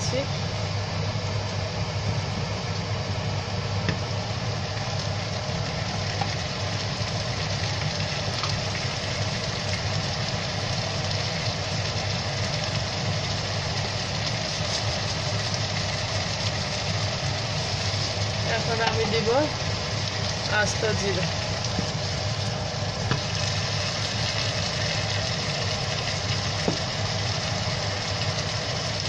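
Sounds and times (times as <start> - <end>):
constant low hum: 0.0 - 29.0
onions frying in oil: 0.0 - 29.0.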